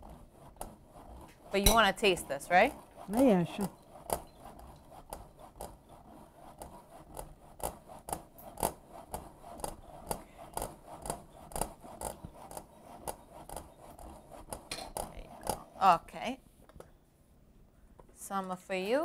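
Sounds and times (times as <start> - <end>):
cheese grating on metal grater: 0.0 - 16.3.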